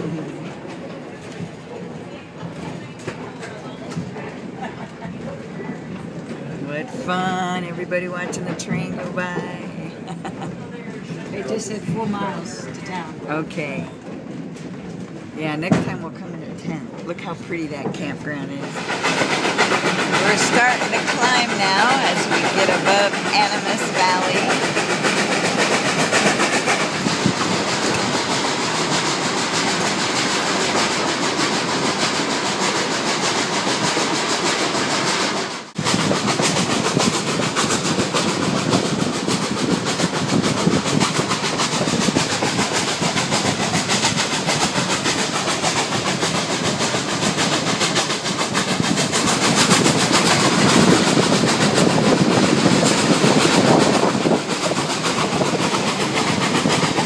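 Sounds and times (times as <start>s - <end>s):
train cars rumbling on rails: 0.0s - 57.0s.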